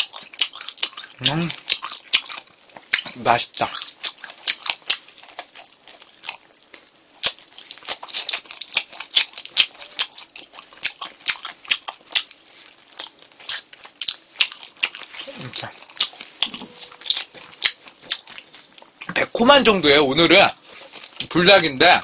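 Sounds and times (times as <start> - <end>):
person chewing chicken wings: 0.0 - 19.2.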